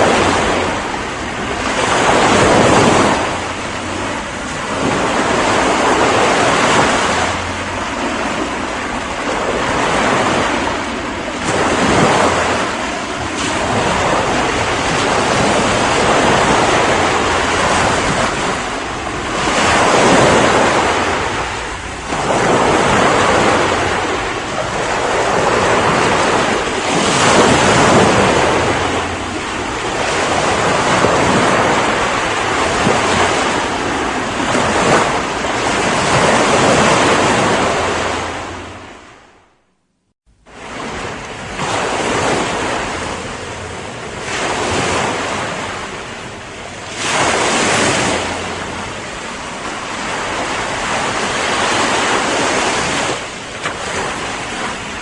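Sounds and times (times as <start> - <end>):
ocean waves breaking on shore: 0.0 - 39.7, 40.3 - 55.0.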